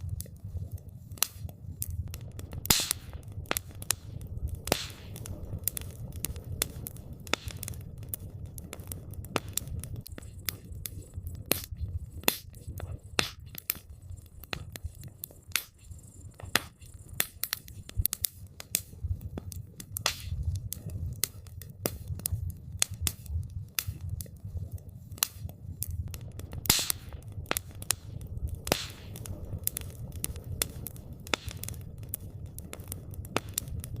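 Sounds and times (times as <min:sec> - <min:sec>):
campfire crackling: 0:00.0 - 0:34.0
fire popping and snapping: 0:00.0 - 0:34.0
low rumble of flame: 0:00.0 - 0:34.0.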